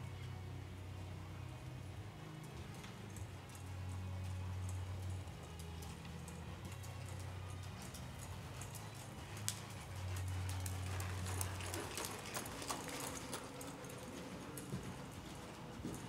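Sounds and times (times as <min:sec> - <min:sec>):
horse hoofbeats on soft dirt: 0:02.1 - 0:16.0.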